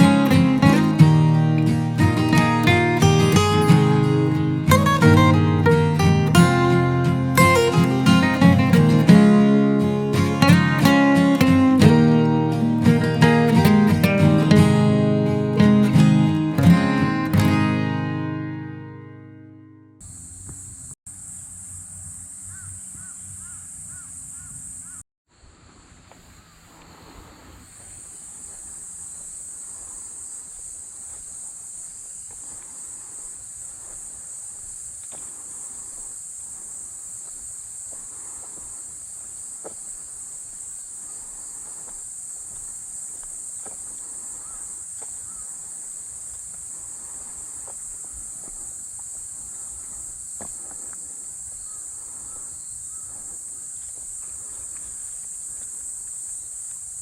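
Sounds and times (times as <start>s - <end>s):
insects singing: 0.0s - 18.7s, 20.0s - 25.0s, 26.0s - 57.0s.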